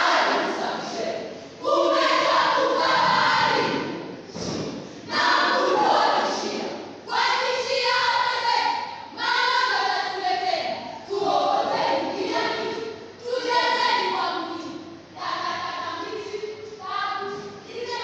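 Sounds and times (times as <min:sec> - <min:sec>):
group reciting in unison: 0:00.0 - 0:18.0.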